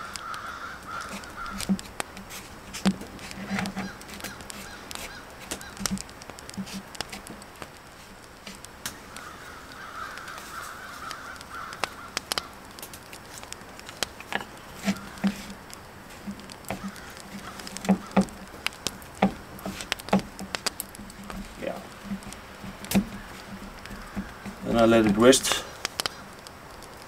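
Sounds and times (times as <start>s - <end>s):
wooden spoon stirring in wooden bowl: 0.2s - 12.4s, 13.1s - 27.0s.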